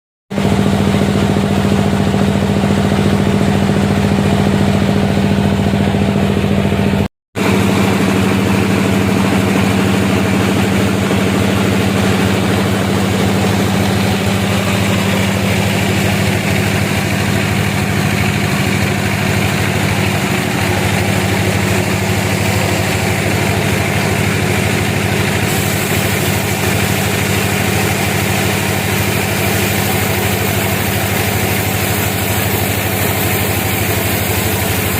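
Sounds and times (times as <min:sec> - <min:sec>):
sawmill machinery humming: 0:00.3 - 0:34.9.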